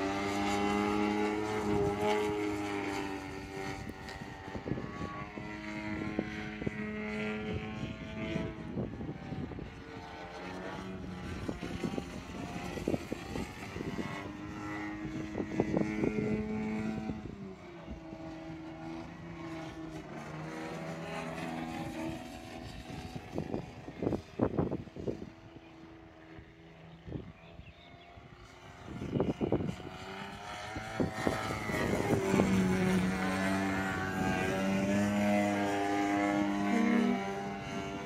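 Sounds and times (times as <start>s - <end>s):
model airplane engine and propeller: 0.0s - 38.0s.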